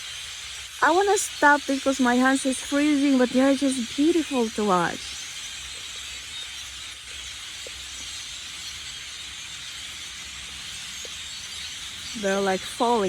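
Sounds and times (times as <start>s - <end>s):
flock of blackbirds calling: 0.0s - 13.0s.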